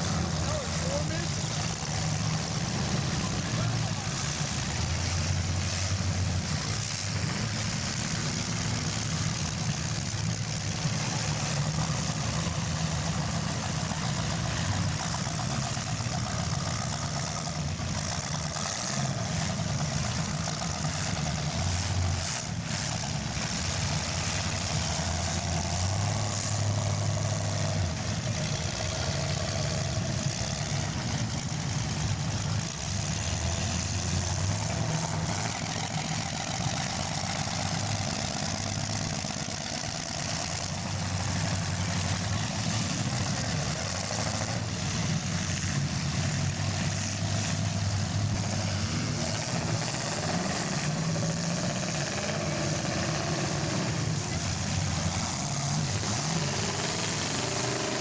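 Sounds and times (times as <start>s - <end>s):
car engines rumbling and revving: 0.0s - 58.0s.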